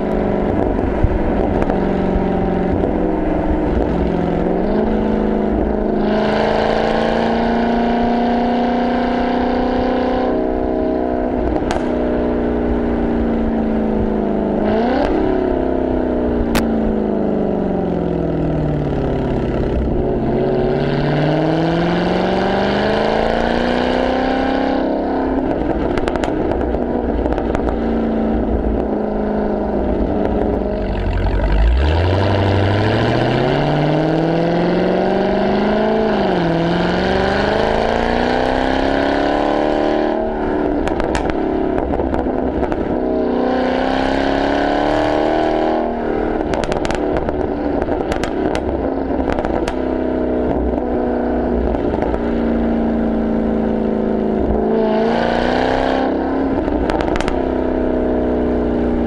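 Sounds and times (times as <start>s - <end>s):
exhaust crackling and popping: 0.0s - 9.0s, 10.4s - 24.1s, 24.8s - 59.0s
car engine accelerating: 0.0s - 59.0s.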